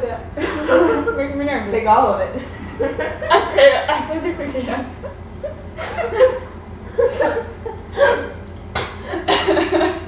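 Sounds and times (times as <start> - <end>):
young women laughing and giggling: 0.4 - 1.6, 2.3 - 8.4, 9.0 - 10.0.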